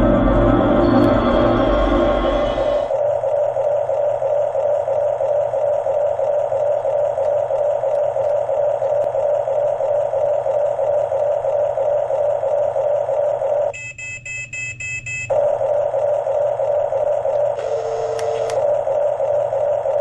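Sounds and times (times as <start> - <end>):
toy bulldozer mechanical drone: 1.5 - 13.8, 15.3 - 20.0
rapid electronic beeping: 2.8 - 20.0.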